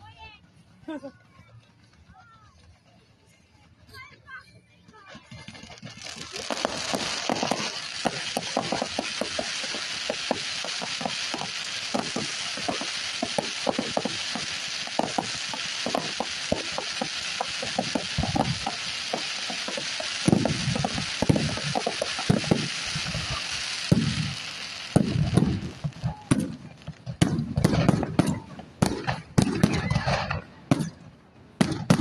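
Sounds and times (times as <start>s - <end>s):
fireworks popping and banging: 4.9s - 32.0s
crackling hiss: 5.3s - 32.0s
deep firework booms: 5.4s - 31.0s, 31.6s - 32.0s.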